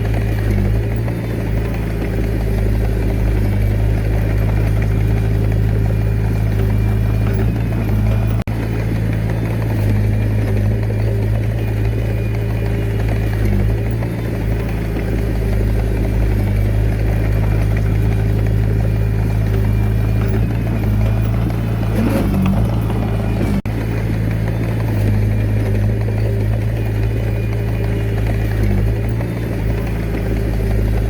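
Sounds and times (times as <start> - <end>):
diesel engine running steadily: 0.0 - 31.0.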